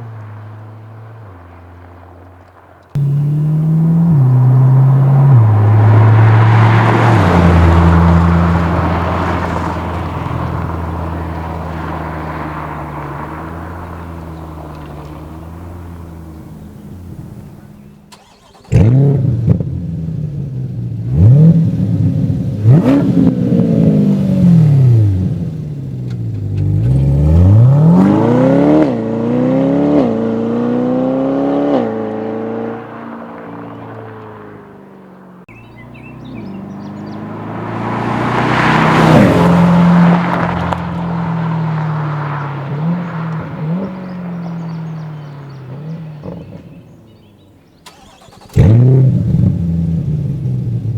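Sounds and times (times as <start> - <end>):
car engine throttle blips: 0.0 - 34.5, 35.5 - 50.9
car engine revving: 0.0 - 34.7, 35.5 - 50.9.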